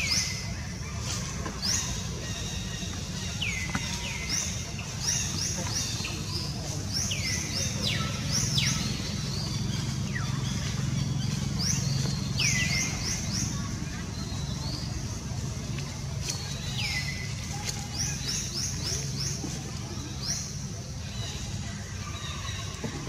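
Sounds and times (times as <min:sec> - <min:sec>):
bird chirping: 0:01.5 - 0:23.0.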